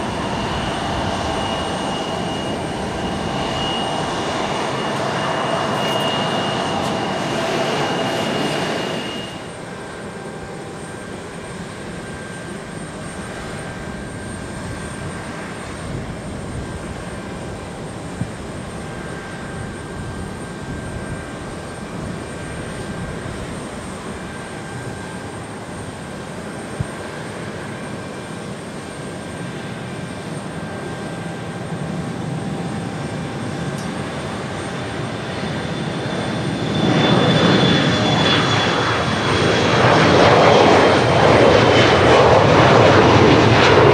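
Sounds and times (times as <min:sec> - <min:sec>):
jet airliner taking off: 0:00.0 - 0:43.9.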